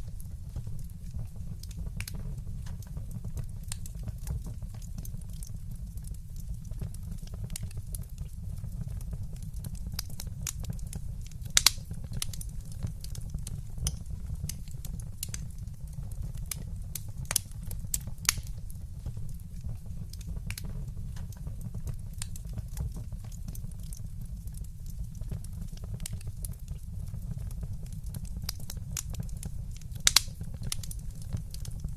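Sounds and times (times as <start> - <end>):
fireplace fire crackling: 0.0 - 31.9
loud fire pops: 0.1 - 31.9.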